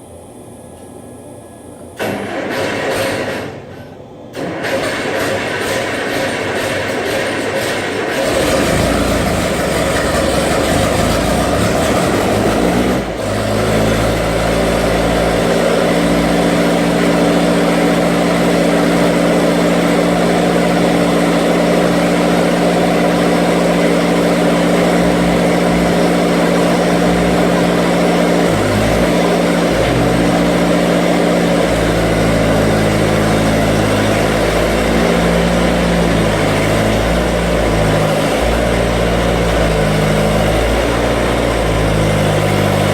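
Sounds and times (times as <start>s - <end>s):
skid steer engine running: 2.0s - 42.9s.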